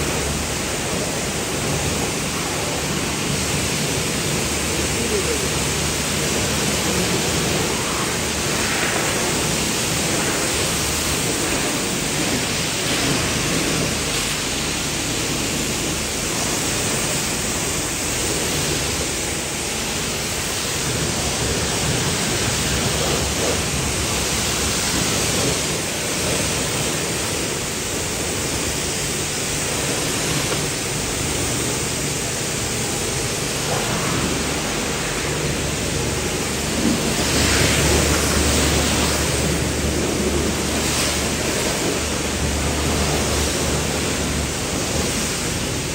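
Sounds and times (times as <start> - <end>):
pressure washer spraying water: 0.0 - 45.9.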